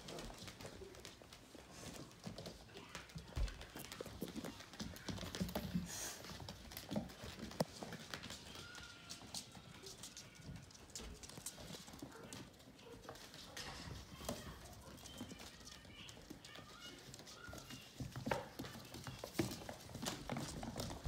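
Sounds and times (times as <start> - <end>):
puppy claws clicking on wooden floor: 0.0 - 21.0.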